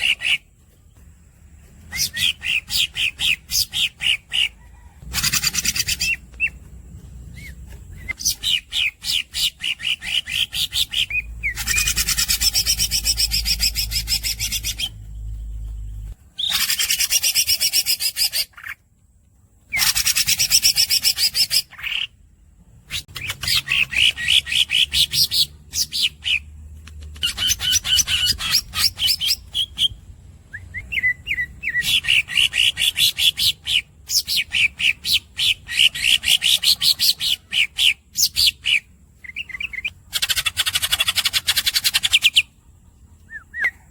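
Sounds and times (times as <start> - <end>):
bird singing chirps and trills: 0.0 - 18.8, 22.8 - 42.5.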